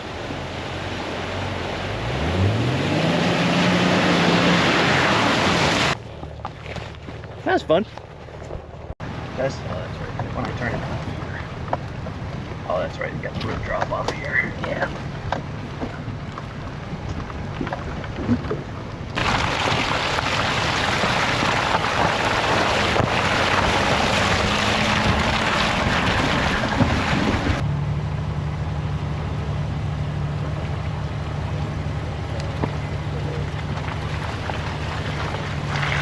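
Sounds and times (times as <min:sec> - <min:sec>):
truck engine low drone: 0:00.0 - 0:36.0.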